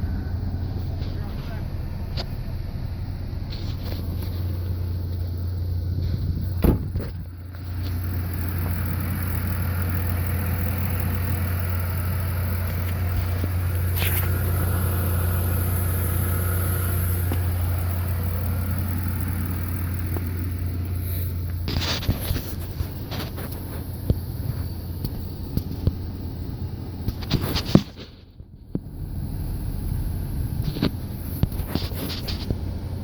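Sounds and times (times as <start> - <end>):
car engine humming: 0.0 - 33.0.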